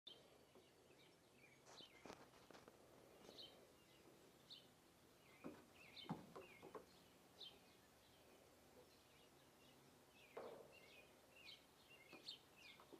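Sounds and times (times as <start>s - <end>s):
small birds chirping: 0.1s - 12.9s.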